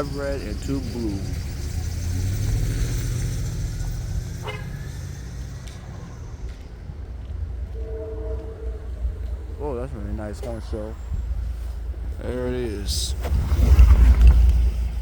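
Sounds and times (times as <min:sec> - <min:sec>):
high train wheel squeal: 0:00.0 - 0:13.8
passenger train rumbling past: 0:00.0 - 0:13.8.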